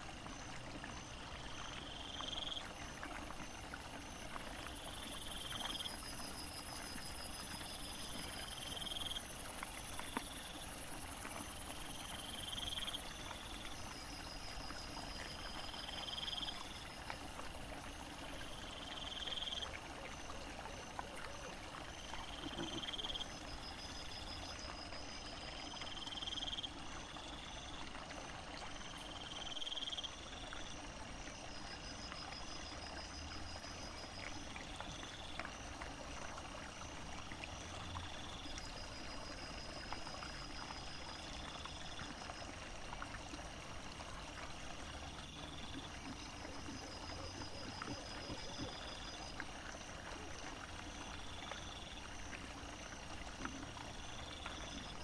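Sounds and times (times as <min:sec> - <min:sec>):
insects chirping: 0:00.0 - 0:55.0
trickling stream water: 0:00.0 - 0:55.0.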